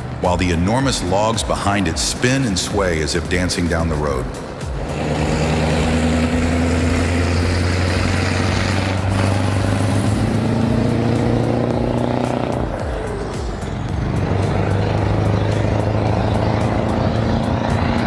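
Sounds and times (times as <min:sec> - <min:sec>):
truck diesel engine roaring: 0:00.0 - 0:18.0.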